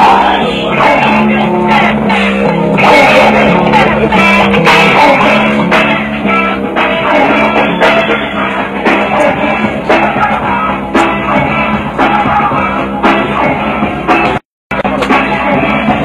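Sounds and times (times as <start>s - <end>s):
guitar and bass line: 0.0s - 16.0s.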